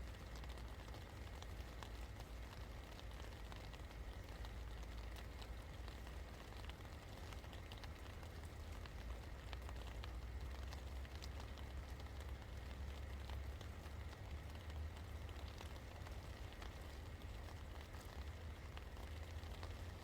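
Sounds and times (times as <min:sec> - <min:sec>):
constant low rumble: 0:00.0 - 0:20.0
light rain: 0:00.0 - 0:20.0.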